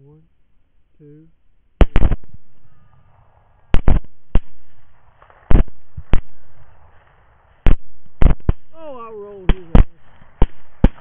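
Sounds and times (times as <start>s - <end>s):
rifle shots: 1.8s - 11.0s.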